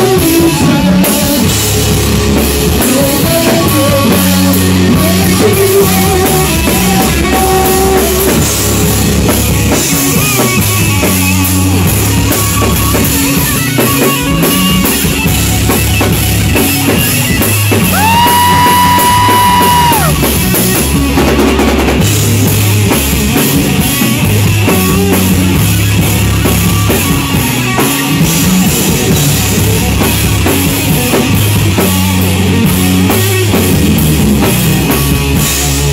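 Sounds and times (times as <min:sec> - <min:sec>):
drum kit: 0:00.0 - 0:35.9
heavy guitar and bass riffs: 0:00.0 - 0:35.9.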